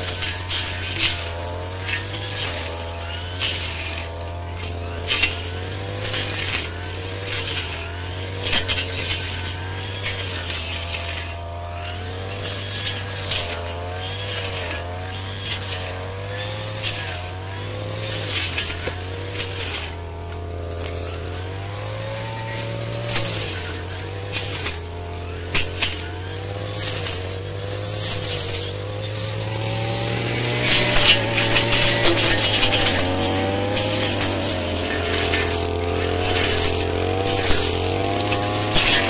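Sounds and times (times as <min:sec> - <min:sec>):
blade hitting stems: 0:00.0 - 0:39.0
brush cutter engine running: 0:00.0 - 0:39.0.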